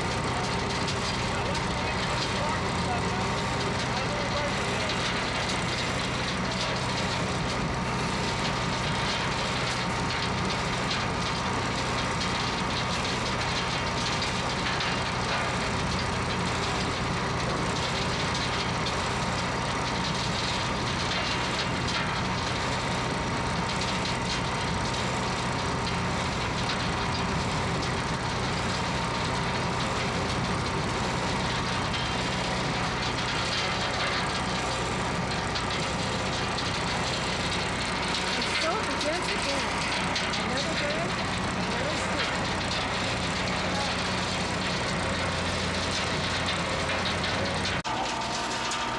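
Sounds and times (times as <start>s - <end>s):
heavy machinery din: 0.0s - 48.9s.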